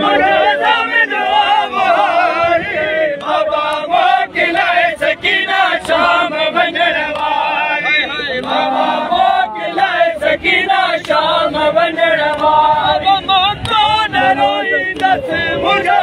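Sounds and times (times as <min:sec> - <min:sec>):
male crowd chanting a lament: 0:00.0 - 0:16.0.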